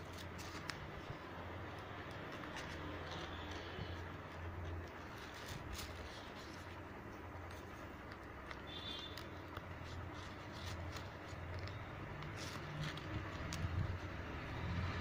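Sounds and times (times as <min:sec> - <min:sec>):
ribbon rustling and crinkling: 0:00.0 - 0:15.0.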